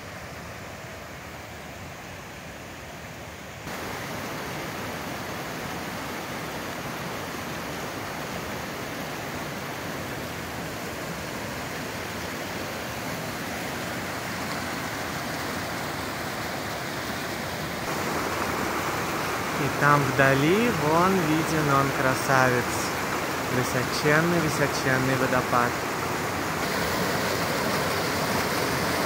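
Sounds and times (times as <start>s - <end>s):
stream rushing over stones: 3.6s - 29.0s.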